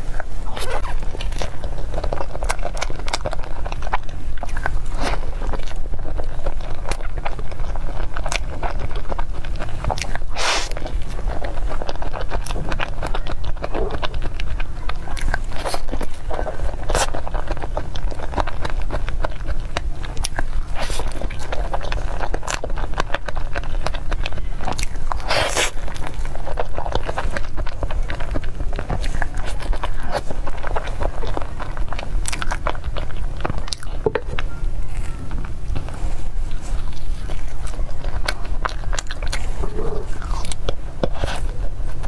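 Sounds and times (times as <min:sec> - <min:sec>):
close chewing mouth sounds: 0:00.0 - 0:42.0.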